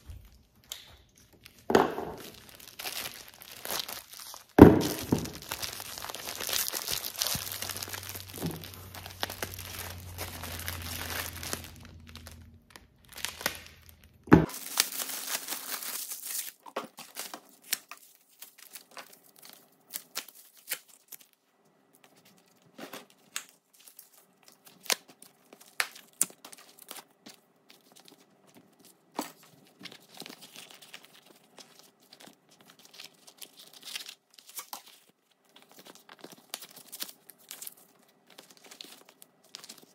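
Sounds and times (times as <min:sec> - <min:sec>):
plastic packaging crinkling and tearing: 0:00.0 - 0:21.4, 0:22.0 - 0:39.9.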